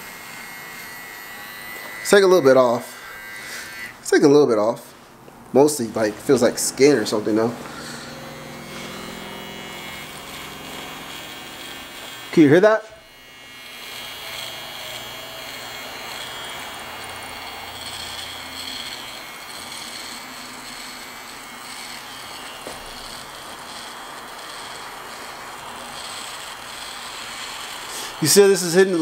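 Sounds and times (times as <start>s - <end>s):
hair trimmer running: 0.0s - 4.0s, 6.3s - 29.0s.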